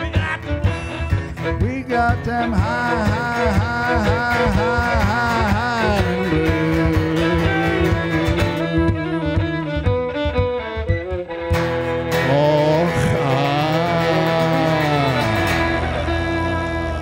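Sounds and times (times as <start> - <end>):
acoustic guitar: 0.0 - 17.0
bodhran drum: 0.0 - 17.0
fiddle: 0.0 - 17.0.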